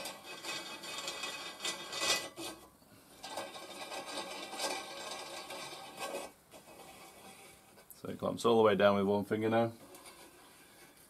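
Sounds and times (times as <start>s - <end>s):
metal scraping on metal: 0.0s - 7.9s, 9.6s - 11.0s.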